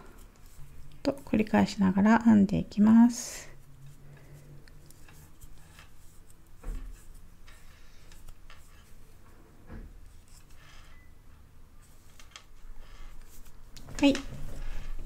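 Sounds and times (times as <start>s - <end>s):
soft yarn rustles: 0.0s - 15.0s.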